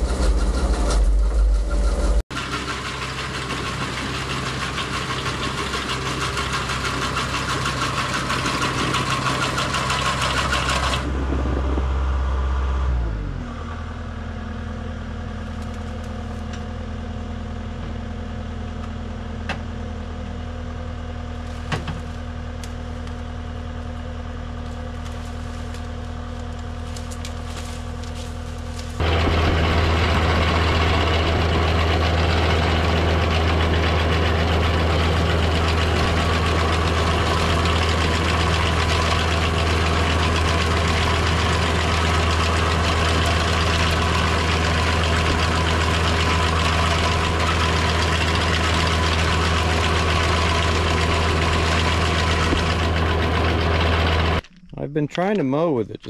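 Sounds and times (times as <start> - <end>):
skid steer engine running: 0.0 - 54.5.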